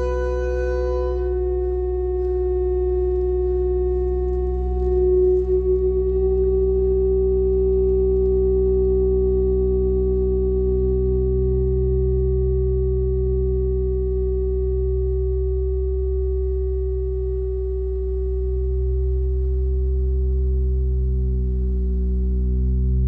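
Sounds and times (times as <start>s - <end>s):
electronic drone of sine tones: 0.0s - 23.0s.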